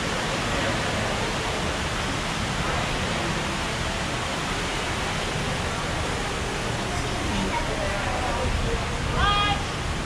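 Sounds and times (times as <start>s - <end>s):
water channel rushing: 0.0s - 10.0s.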